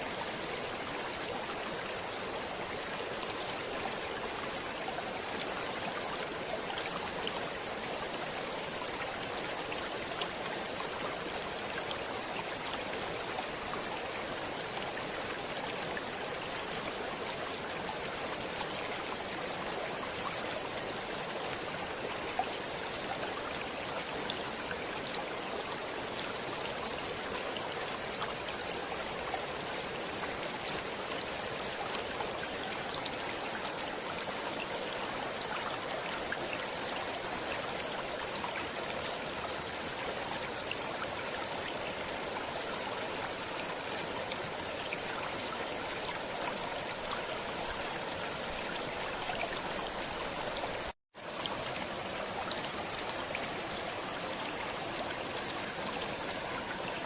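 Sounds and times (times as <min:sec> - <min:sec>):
stream flowing: 0:00.0 - 0:57.0
tiny water splashes and trickles: 0:00.0 - 0:57.0.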